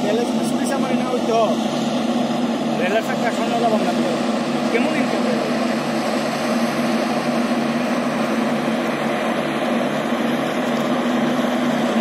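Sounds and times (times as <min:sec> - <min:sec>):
diesel engine drone: 0:00.0 - 0:12.0
low throbbing hum: 0:00.0 - 0:12.0.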